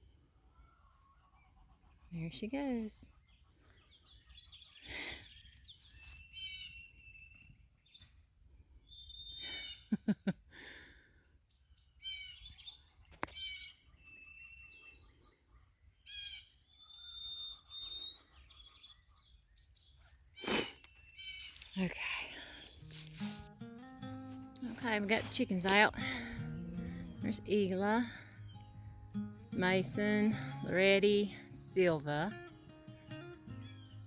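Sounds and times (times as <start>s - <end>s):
birds chirping and singing: 0.0s - 9.9s, 11.3s - 23.4s, 24.1s - 34.0s.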